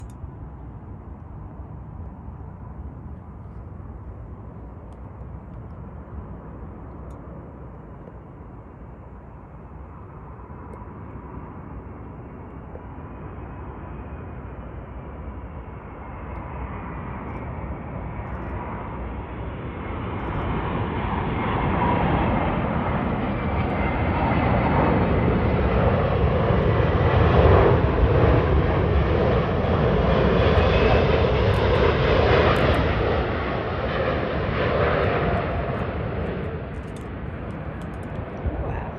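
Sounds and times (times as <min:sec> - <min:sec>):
jet airliner engines rumbling: 0:00.0 - 0:38.9.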